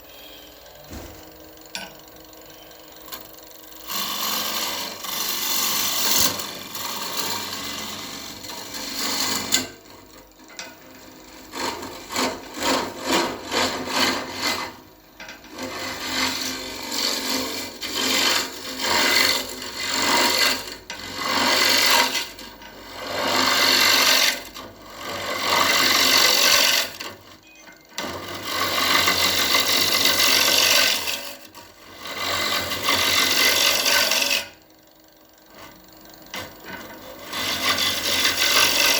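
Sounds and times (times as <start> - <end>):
lathe tool cutting wood: 2.5 - 27.4, 28.0 - 34.6, 35.5 - 38.9.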